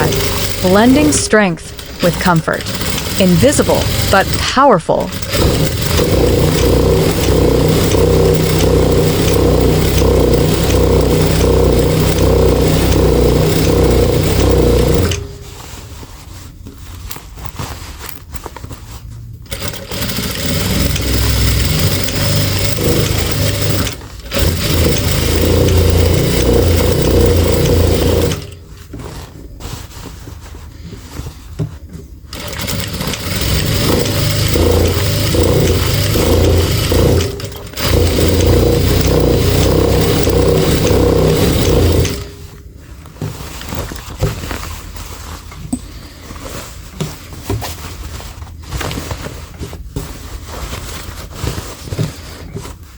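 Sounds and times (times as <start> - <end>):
sewing machine stitching: 0.0 - 15.8, 19.4 - 29.3, 32.3 - 49.6.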